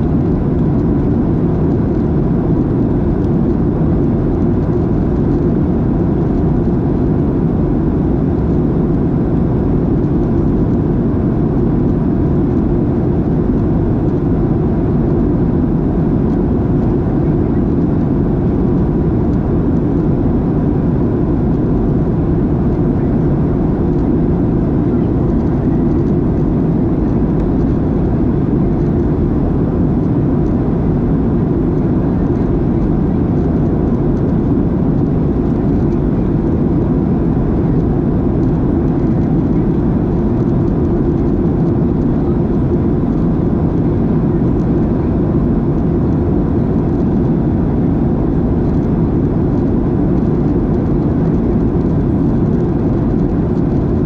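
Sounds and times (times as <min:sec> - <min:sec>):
airplane cabin engine rumble: 0:00.0 - 0:54.0
faint steady whine: 0:00.0 - 0:54.0.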